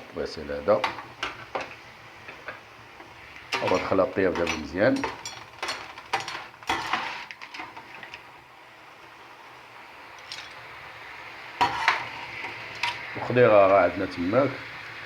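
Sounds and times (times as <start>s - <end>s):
oil sizzling in pan: 0.0s - 15.0s.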